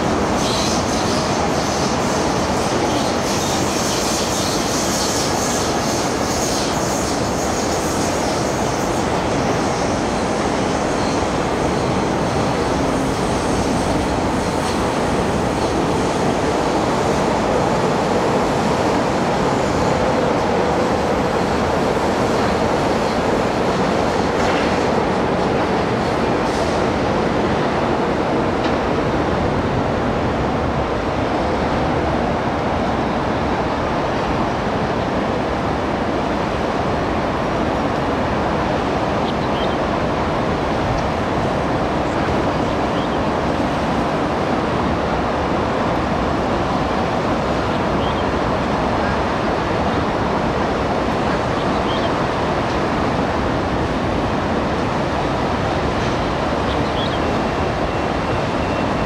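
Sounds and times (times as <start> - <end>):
road traffic roar: 0.0 - 59.0.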